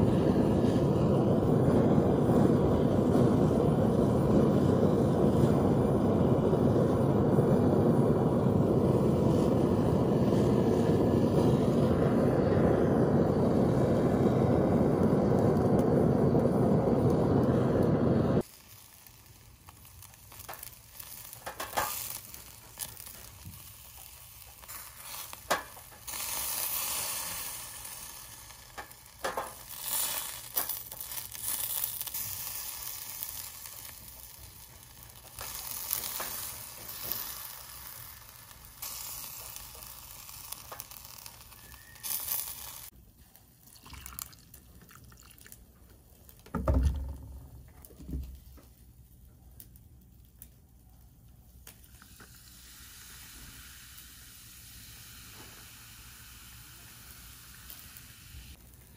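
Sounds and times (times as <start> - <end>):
gas torch flame roaring: 0.0 - 43.0, 51.4 - 58.9
meat sizzling on a grill: 0.0 - 43.0, 51.7 - 58.9.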